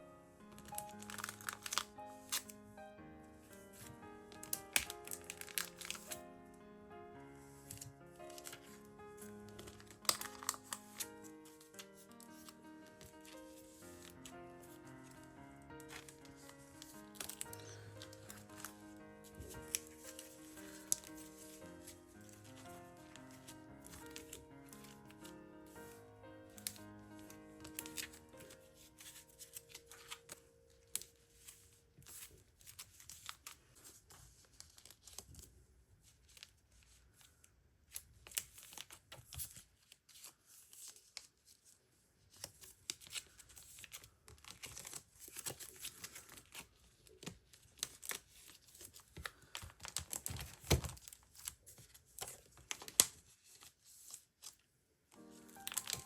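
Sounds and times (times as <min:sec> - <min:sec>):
plastic sleeves rustling and crinkling: 0:00.0 - 0:02.7, 0:03.3 - 0:06.3, 0:07.3 - 0:56.0.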